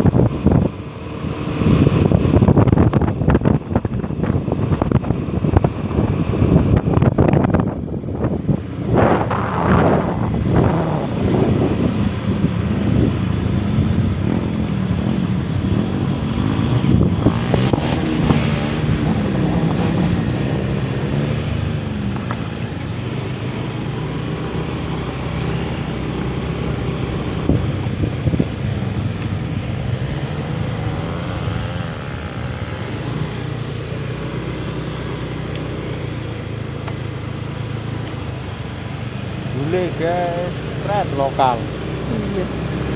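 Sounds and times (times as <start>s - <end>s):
road and wind noise: 0.0s - 42.9s
vehicle engine running: 0.0s - 42.9s.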